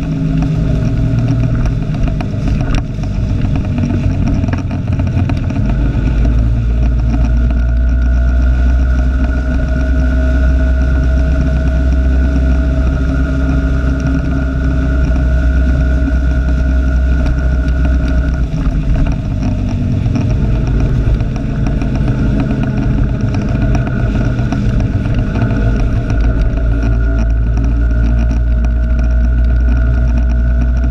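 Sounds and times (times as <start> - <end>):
high whine: 0.0 - 30.9
motorbike engine running: 0.0 - 30.9.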